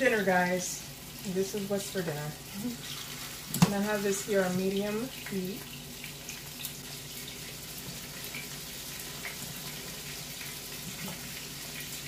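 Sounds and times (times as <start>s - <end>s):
fish frying in a pan: 0.0s - 12.0s
pot boiling and bubbling: 0.0s - 12.0s.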